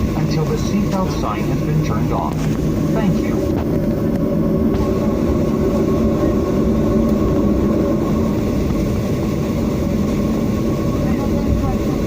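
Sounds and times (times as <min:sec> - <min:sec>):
jet engines idling hum: 0:00.0 - 0:12.0.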